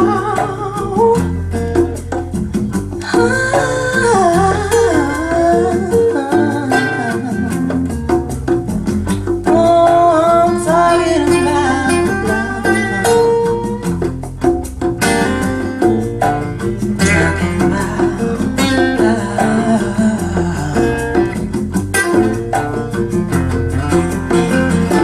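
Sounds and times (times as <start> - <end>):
blues-rock guitar and bass: 0.0 - 25.0.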